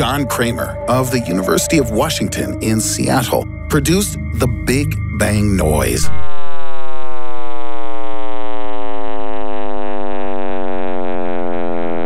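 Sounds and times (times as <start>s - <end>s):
drone of sliding tones: 0.0s - 12.0s.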